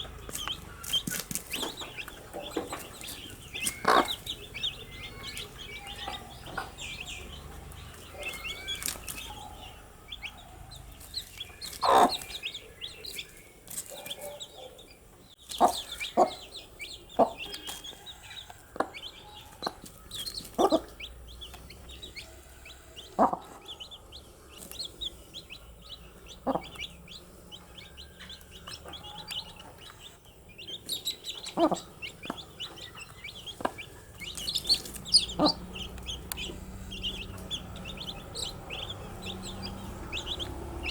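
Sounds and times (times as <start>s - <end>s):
sharp pecks or clucks: 0.0s - 14.8s, 15.4s - 40.9s
baby chicks peeping: 0.0s - 40.9s.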